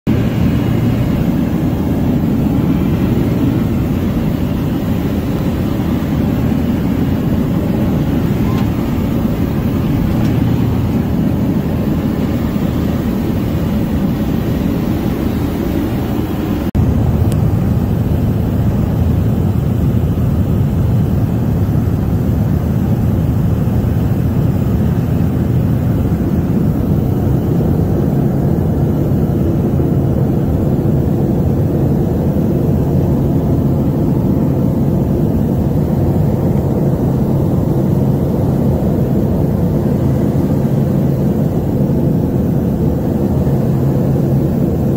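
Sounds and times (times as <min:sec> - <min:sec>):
aircraft engines and rushing air: 0:00.0 - 0:44.9
low hum: 0:00.1 - 0:44.9.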